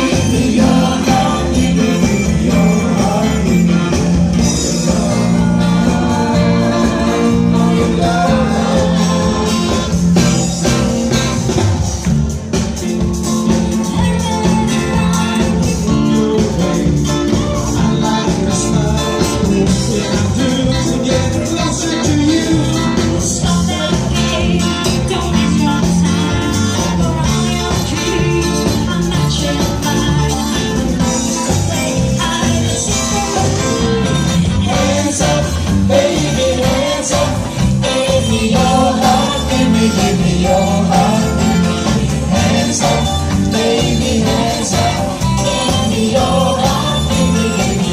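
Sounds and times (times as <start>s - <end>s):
person singing: 0.0s - 10.2s, 13.6s - 47.9s
electric guitar: 0.0s - 47.9s
rock band playing: 0.0s - 47.9s.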